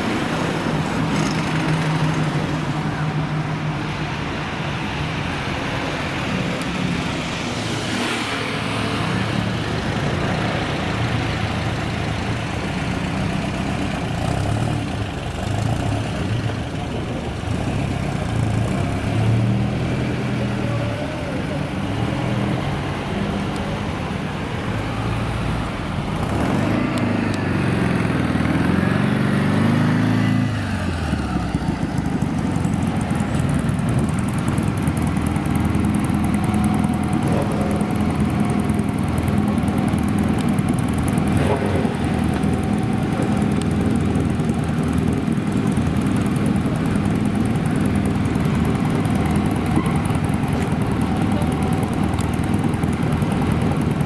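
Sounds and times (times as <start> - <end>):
old car engine passing by: 0.0 - 54.0
engine running at low pitch: 8.4 - 54.0.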